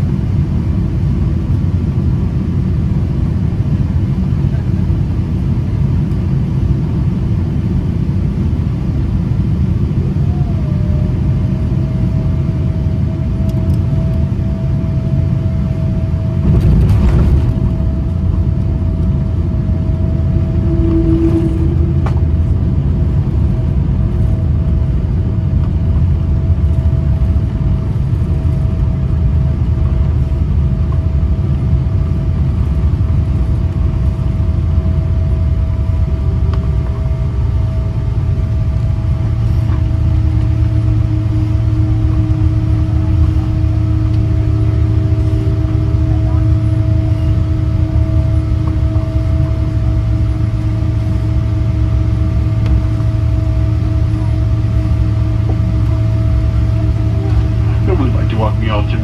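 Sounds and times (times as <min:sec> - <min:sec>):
aircraft engine and airflow rumble: 0:00.0 - 0:59.0
thin steady whine: 0:08.0 - 0:59.0.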